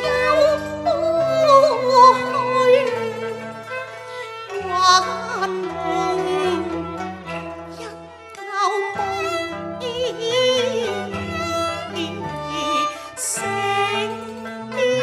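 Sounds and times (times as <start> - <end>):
woman singing operatic song: 0.0 - 3.5, 4.6 - 6.9, 7.8 - 15.0
bowed strings: 0.0 - 15.0.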